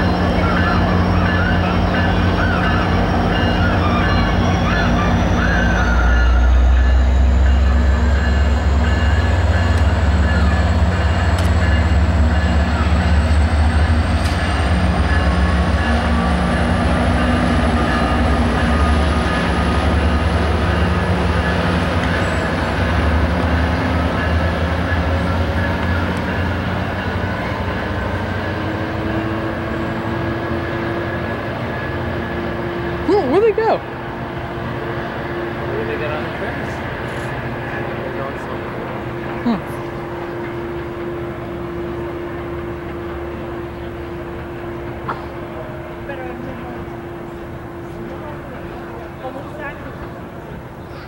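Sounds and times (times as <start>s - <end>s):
diesel locomotive engine drone: 0.0s - 51.0s.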